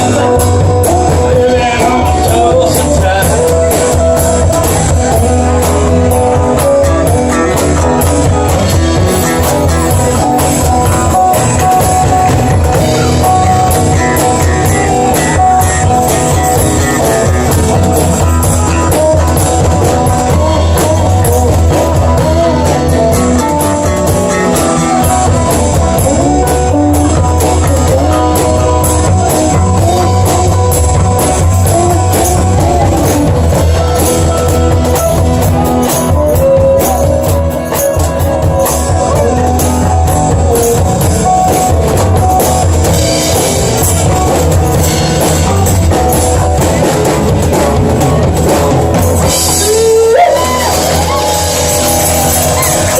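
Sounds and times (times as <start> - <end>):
blues rock guitar: 0.0 - 52.9
drum kit: 0.0 - 52.9.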